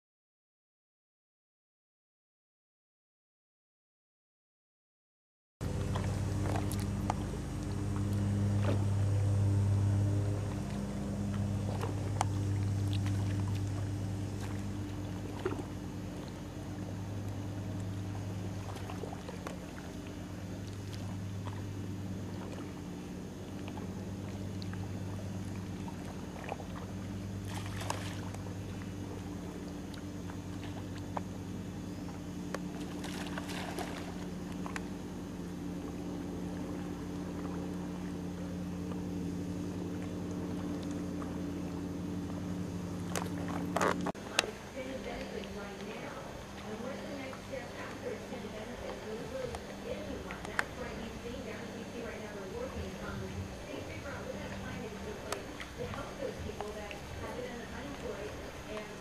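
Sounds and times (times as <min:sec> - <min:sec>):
water splashes: 0:05.6 - 0:39.0, 0:39.8 - 0:59.0
motor droning: 0:05.6 - 0:59.0.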